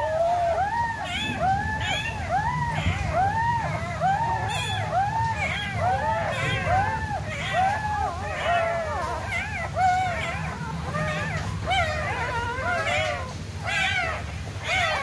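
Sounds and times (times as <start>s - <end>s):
puppies whimpering: 0.0s - 15.0s.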